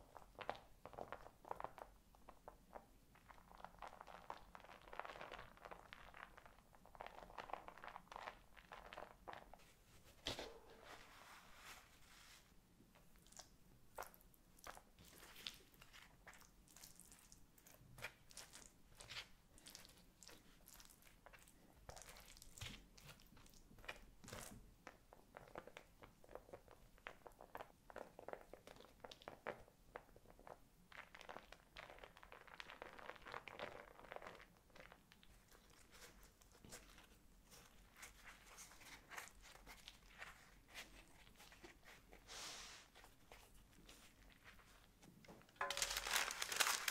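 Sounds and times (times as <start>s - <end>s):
food crinkling and rustling: 0.2s - 29.7s, 30.3s - 46.9s.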